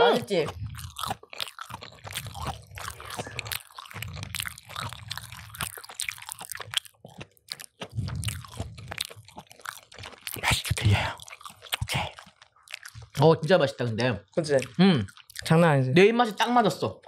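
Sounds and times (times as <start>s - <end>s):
people chewing crunchy food: 0.0s - 15.9s.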